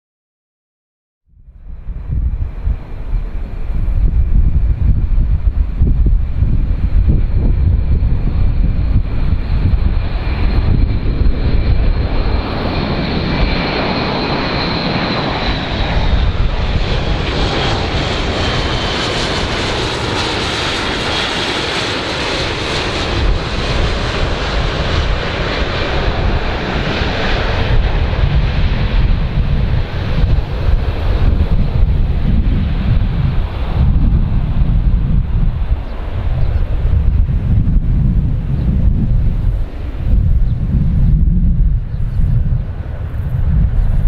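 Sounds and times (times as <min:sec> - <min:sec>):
aircraft engines roaring: 0:01.4 - 0:44.0
high engine whine: 0:01.4 - 0:44.0.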